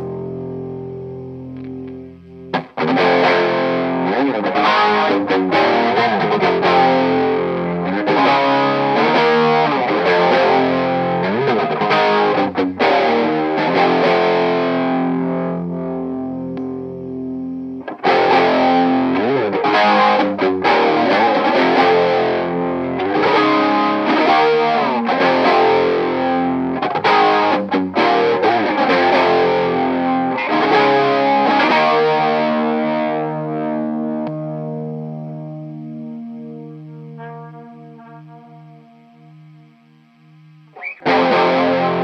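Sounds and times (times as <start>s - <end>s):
overdriven electric guitar chords: 0.0s - 42.0s.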